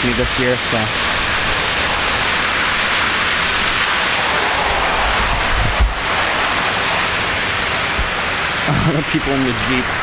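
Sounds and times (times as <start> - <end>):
wind buffeting microphone: 0.0 - 8.6
heavy rain pouring: 0.0 - 10.0.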